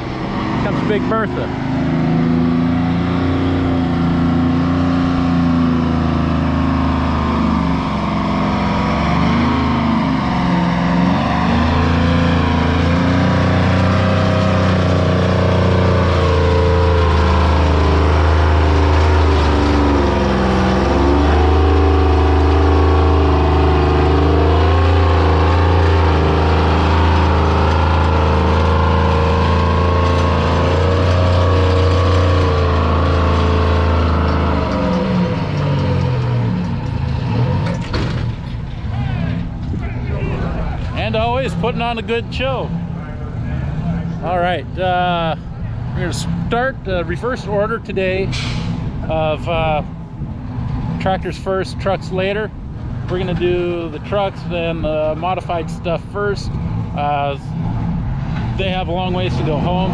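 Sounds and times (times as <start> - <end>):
truck engine running hard: 0.0 - 59.9.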